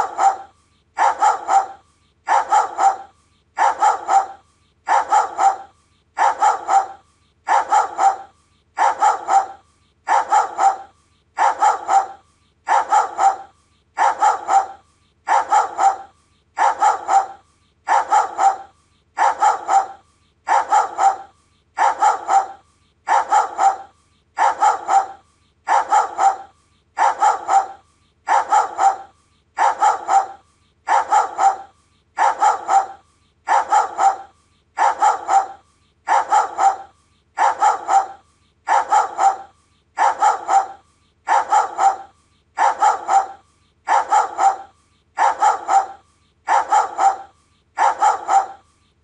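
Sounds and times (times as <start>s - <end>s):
dog barking: 0.0s - 48.8s.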